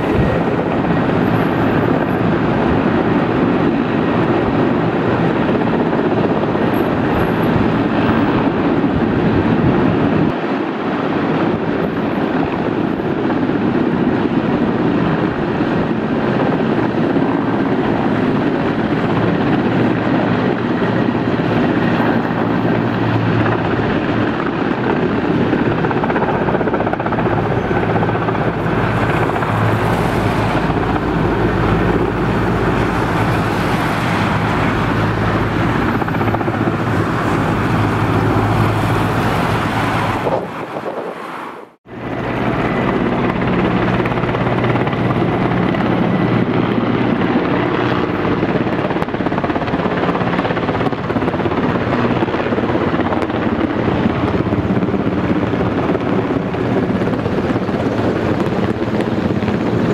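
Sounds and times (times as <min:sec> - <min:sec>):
helicopters flying low overhead: 0:00.0 - 0:59.9.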